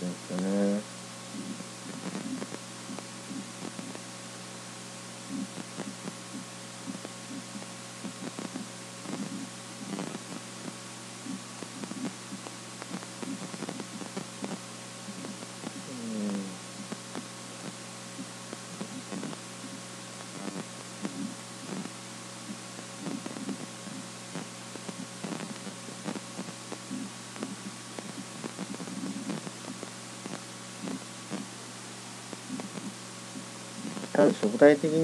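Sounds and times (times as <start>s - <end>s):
electrical hum and hiss: 0.0s - 35.0s.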